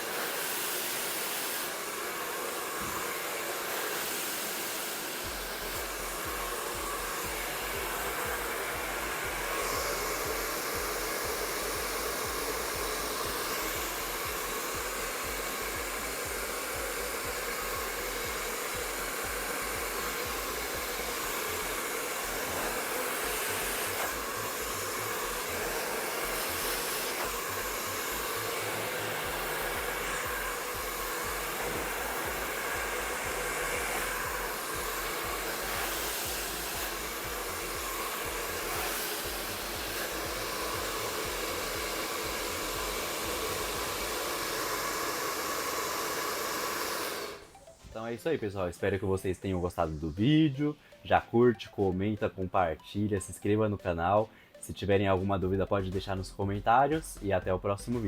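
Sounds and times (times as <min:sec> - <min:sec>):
hair dryer running: 0:00.0 - 0:48.8.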